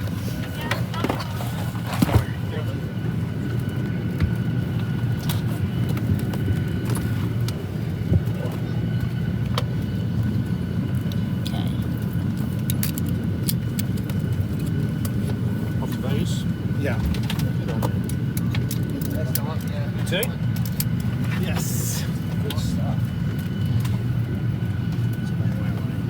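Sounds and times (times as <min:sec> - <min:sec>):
airplane cabin low rumble: 0:00.0 - 0:26.0.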